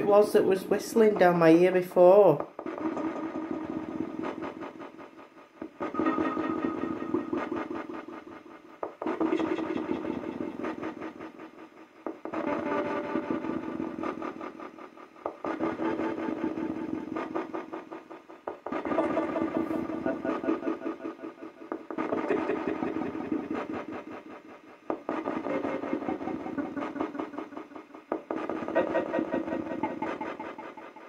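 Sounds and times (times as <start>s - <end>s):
garbled noisy speaker output: 0.0s - 31.0s.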